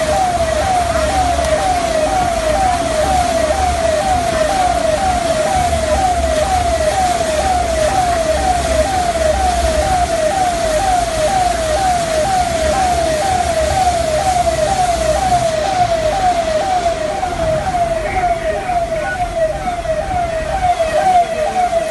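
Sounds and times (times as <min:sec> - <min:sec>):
siren in falling sweeps: 0:00.0 - 0:21.9.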